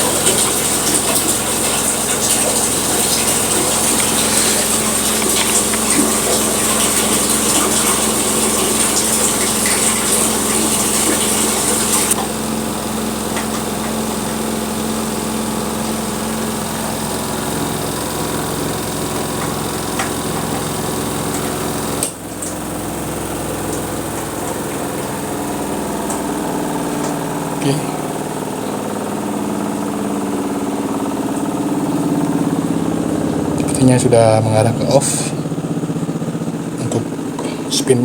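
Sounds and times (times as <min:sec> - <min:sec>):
spin dryer motor hum: 0:00.0 - 0:38.0.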